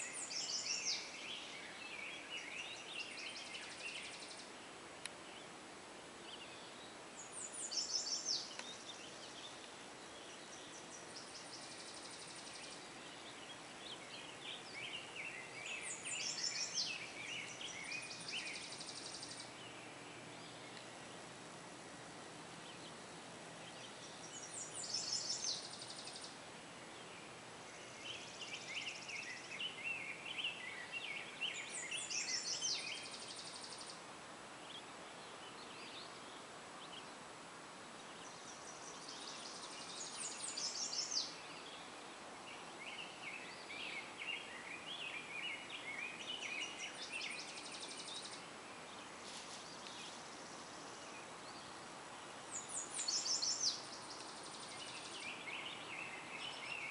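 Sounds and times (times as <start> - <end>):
bird warbling song: 0.0 - 5.6, 6.2 - 20.9, 23.6 - 37.2, 38.0 - 56.9.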